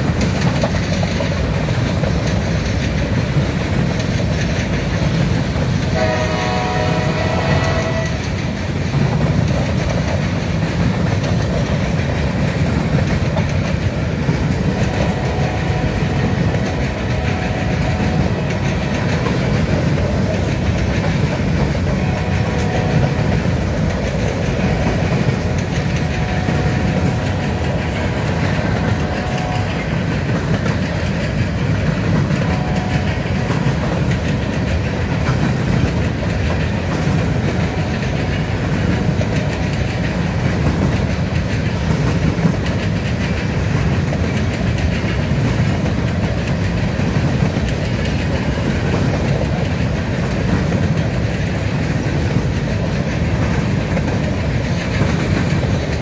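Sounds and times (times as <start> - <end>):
train wheels clickety-clack on rails: 0.0 - 56.0.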